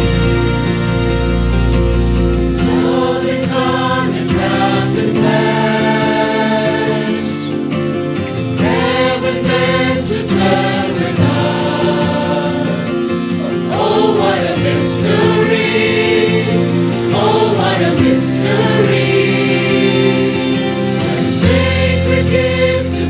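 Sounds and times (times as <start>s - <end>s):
choir singing: 0.0s - 23.0s
sustained instrumental chords: 0.0s - 23.0s.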